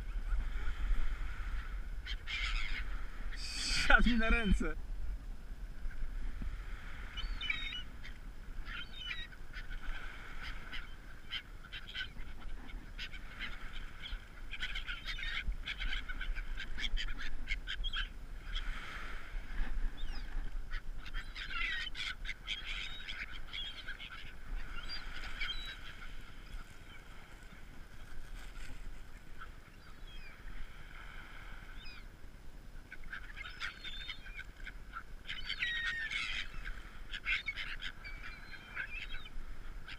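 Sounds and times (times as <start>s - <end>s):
gulls calling: 0.0s - 4.8s, 6.8s - 32.1s, 32.8s - 39.9s.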